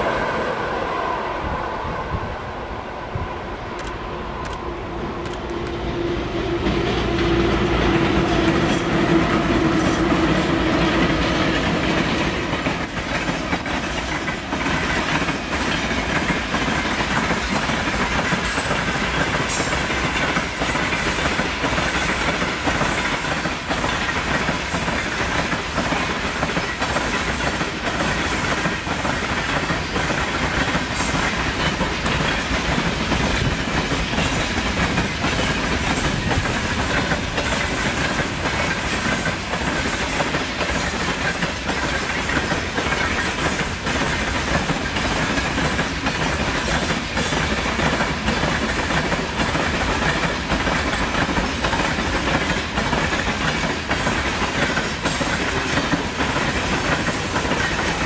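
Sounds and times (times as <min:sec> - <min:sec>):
electric locomotive hum: 0:00.0 - 0:58.0.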